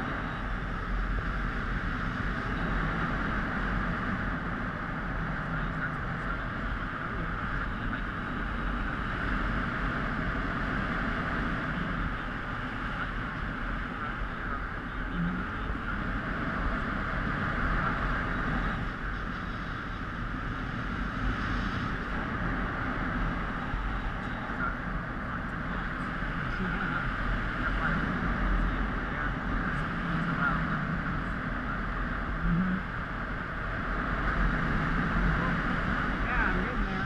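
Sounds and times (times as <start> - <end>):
low rumble: 0.0 - 37.0.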